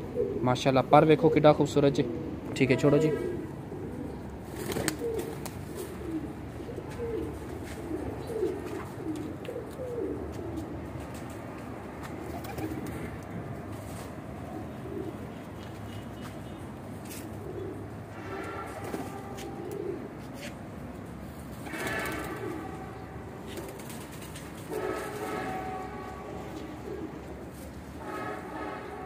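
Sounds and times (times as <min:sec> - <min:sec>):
pigeons cooing: 0:00.0 - 0:29.0.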